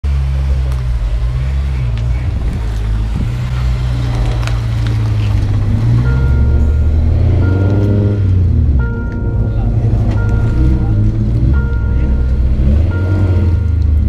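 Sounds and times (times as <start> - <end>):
car engine running at low revs: 0.0 - 14.0.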